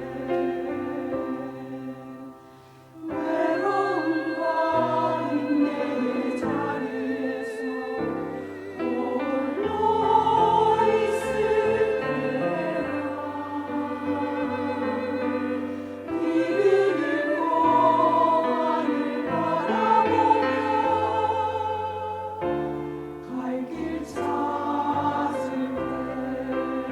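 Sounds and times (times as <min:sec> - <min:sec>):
church choir singing: 0:00.0 - 0:26.9.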